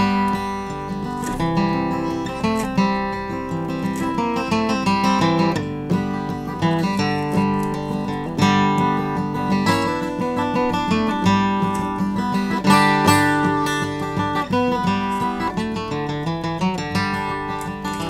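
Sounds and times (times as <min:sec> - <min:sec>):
acoustic guitar plucked notes: 0:00.0 - 0:18.0.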